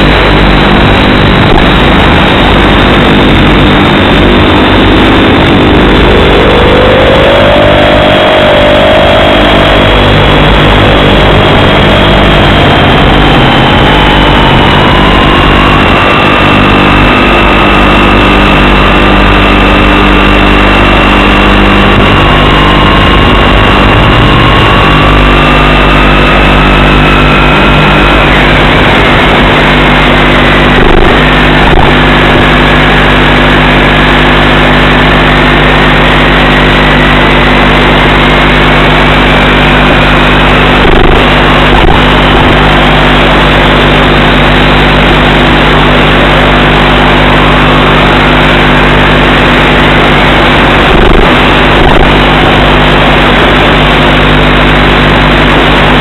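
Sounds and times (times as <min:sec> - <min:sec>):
low electrical buzz: 0:00.0 - 0:56.0
static crackle: 0:00.0 - 0:56.0.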